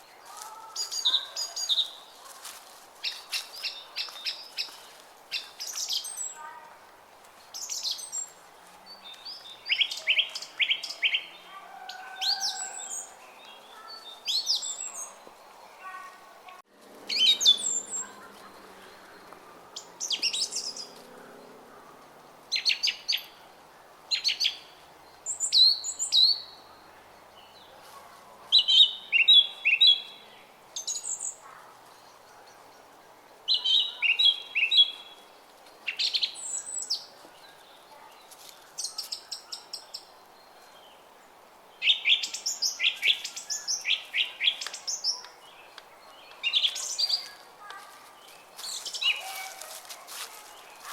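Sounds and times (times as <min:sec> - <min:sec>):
songbirds chirping and trilling: 0:00.0 - 0:50.9.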